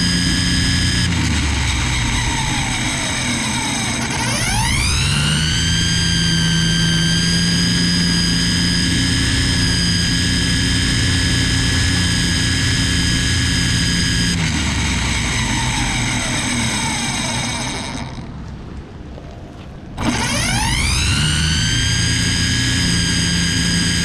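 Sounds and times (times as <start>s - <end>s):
string trimmer whining: 0.0s - 18.5s, 20.0s - 24.0s.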